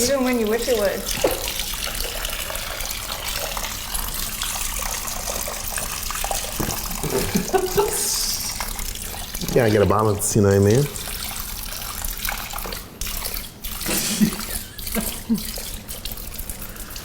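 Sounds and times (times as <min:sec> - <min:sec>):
liquid pouring into sink: 0:00.0 - 0:17.0.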